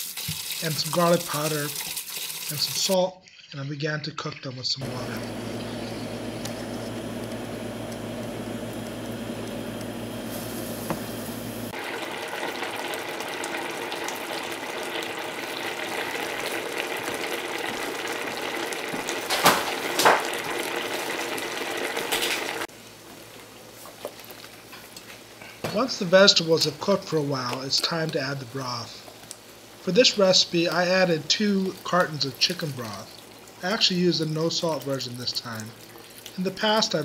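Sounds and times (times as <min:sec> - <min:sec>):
pot bubbling and hissing: 0:00.0 - 0:03.6, 0:04.8 - 0:37.0.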